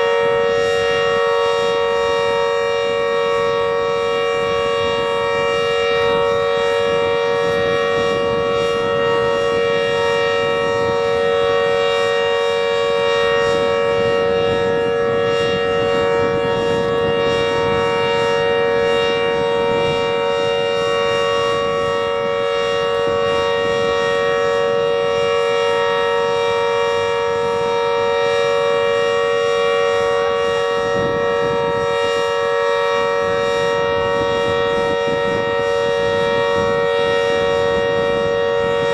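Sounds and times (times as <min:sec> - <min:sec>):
emergency alert alarm tone: 0:00.0 - 0:38.9.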